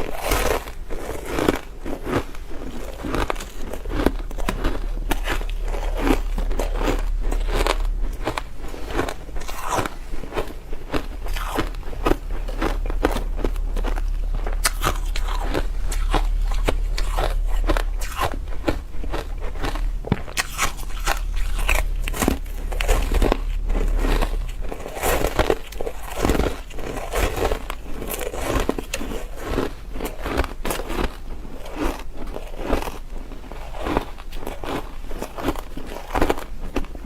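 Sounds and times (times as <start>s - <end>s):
ice crunching while chewed: 0.0s - 37.0s.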